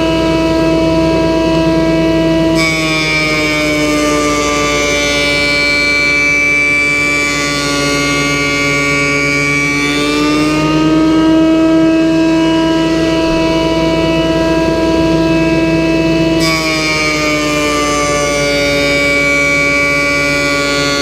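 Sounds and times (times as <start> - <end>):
jointer motor whining: 0.0 - 21.0.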